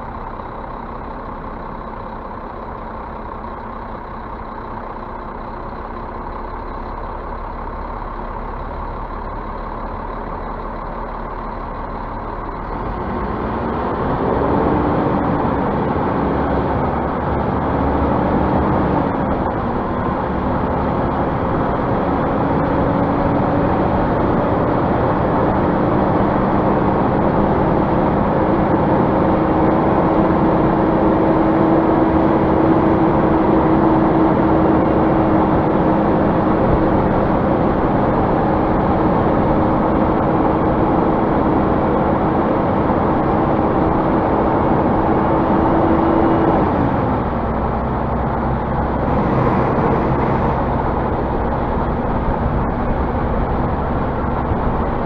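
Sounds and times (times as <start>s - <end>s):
bus engine pulling away: 0.0s - 55.0s.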